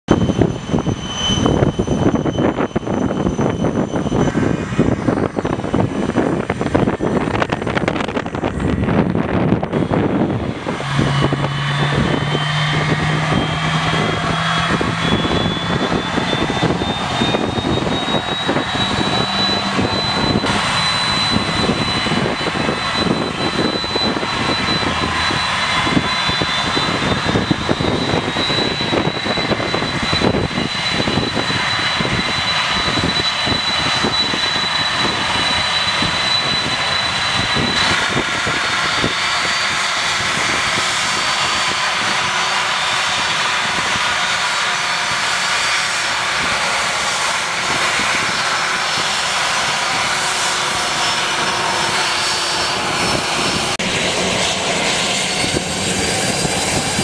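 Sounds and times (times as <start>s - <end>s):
jet engine whine: 0.0s - 57.0s
rushing noise: 0.1s - 57.0s.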